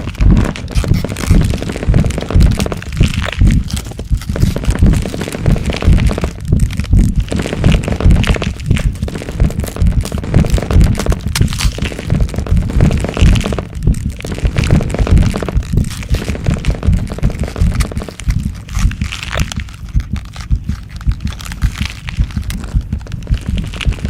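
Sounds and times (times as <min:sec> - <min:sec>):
cracking and crunching: 0:00.0 - 0:24.0
pulsing low rumble: 0:00.0 - 0:24.0.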